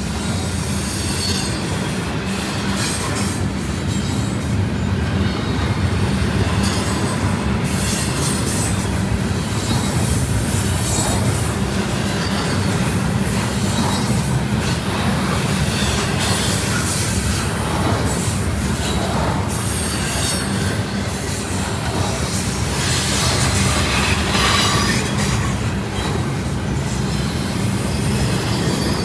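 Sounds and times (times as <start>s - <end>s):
freight train rumbling past: 0.0s - 29.0s
train wheel squeal: 0.0s - 29.0s.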